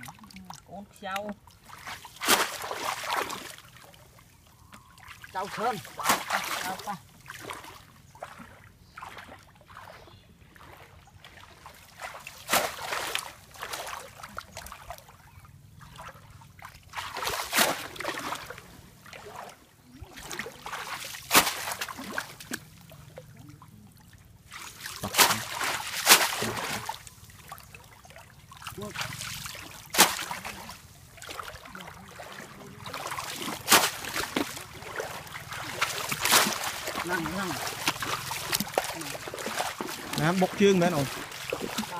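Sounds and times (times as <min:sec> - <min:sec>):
muddy water sloshing and splashing: 0:00.0 - 0:41.9.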